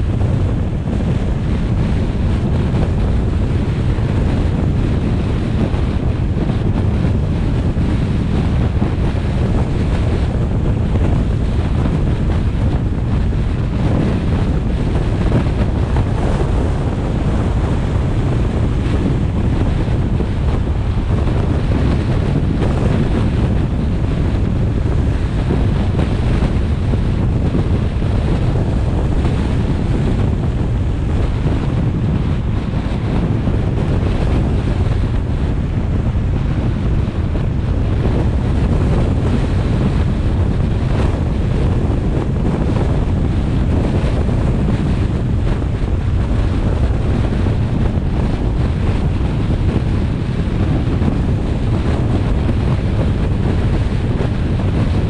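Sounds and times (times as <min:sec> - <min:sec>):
road and tyre rumble: 0:00.0 - 0:55.0
wind noise on microphone: 0:00.0 - 0:55.0.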